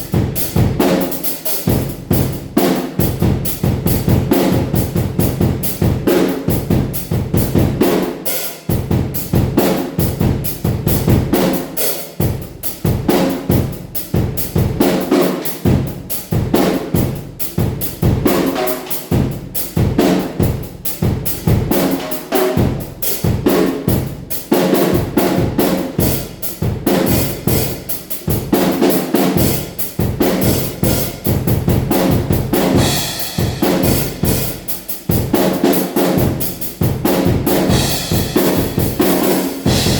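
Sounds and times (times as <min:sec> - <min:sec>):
drum kit playing fast groove: 0:00.0 - 0:39.9.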